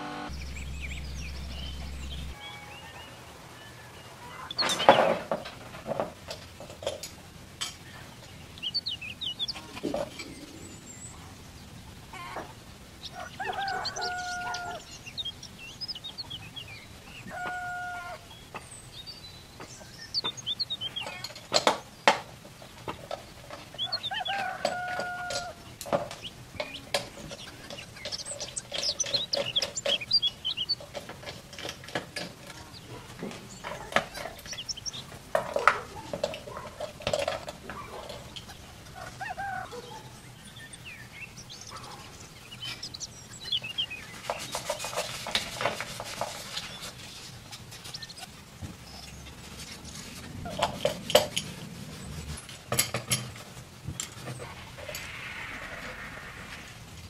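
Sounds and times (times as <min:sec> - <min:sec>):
bird calls: 0:00.2 - 0:53.2.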